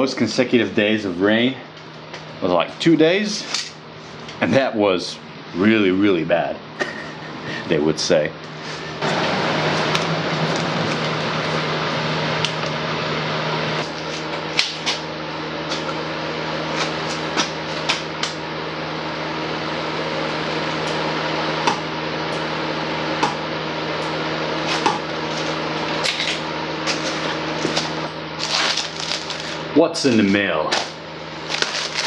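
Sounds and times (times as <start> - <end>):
steady hum and hiss: 0.0 - 32.0.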